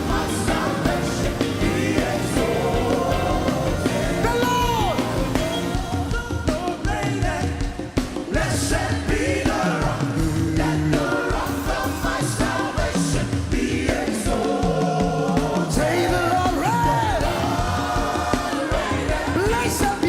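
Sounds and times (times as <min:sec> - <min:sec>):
gospel singing with band: 0:00.0 - 0:20.0.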